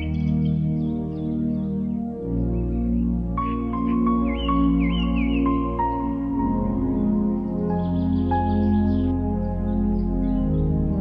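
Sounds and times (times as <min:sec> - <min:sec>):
ambient instrumental music: 0:00.0 - 0:11.0.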